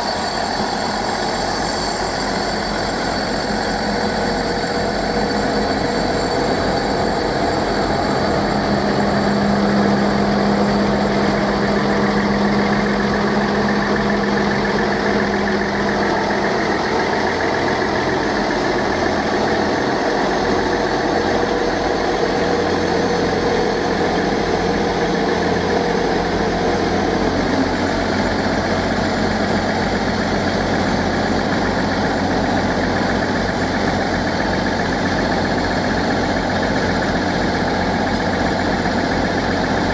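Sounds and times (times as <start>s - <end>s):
train diesel engines droning: 0.0s - 39.9s.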